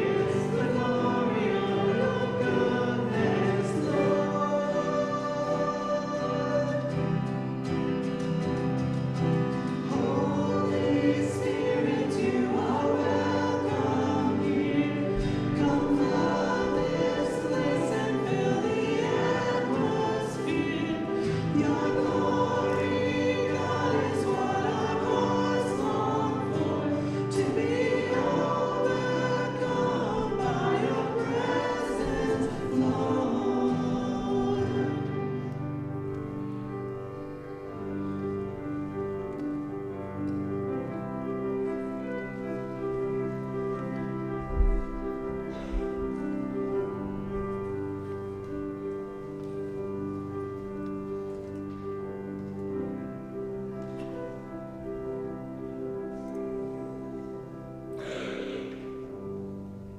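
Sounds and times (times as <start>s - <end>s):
group singing a hymn: 0.0s - 36.6s, 37.6s - 59.9s.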